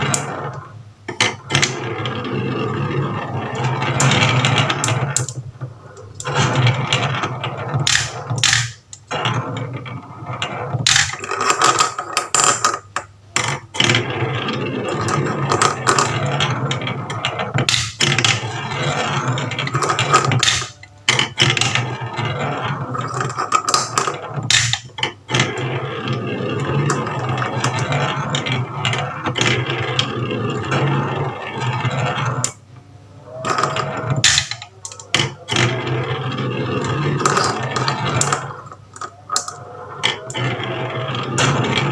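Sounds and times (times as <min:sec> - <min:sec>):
marbles clattering down marble run: 0:00.0 - 0:05.4, 0:06.1 - 0:32.6, 0:33.4 - 0:41.9.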